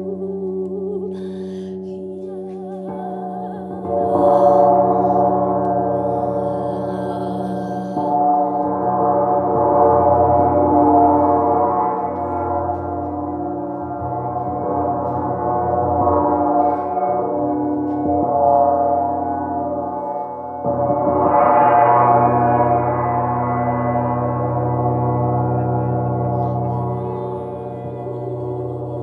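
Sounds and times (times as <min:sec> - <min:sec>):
gong ringing: 0:02.3 - 0:19.9, 0:20.6 - 0:29.0.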